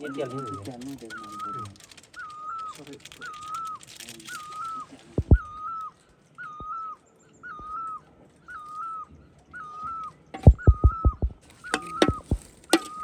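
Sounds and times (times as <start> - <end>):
bird whistling call: 0.0 - 13.0.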